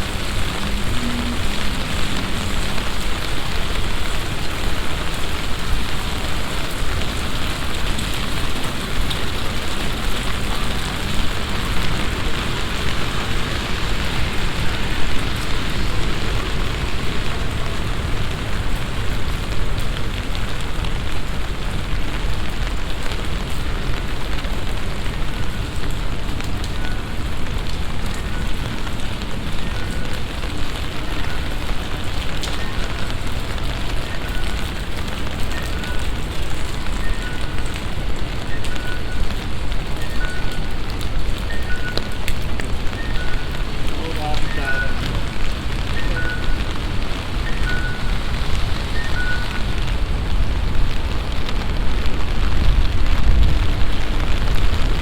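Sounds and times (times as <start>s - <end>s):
heavy rain hissing on ground: 0.0s - 55.0s.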